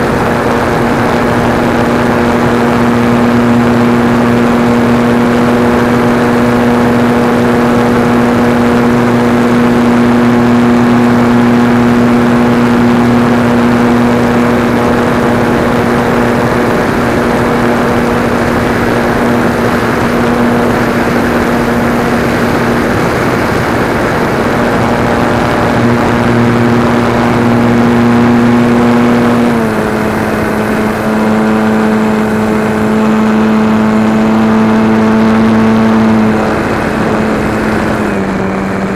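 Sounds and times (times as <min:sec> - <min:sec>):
model airplane motor and propeller: 0:00.0 - 0:38.9
wind rush: 0:00.0 - 0:38.9.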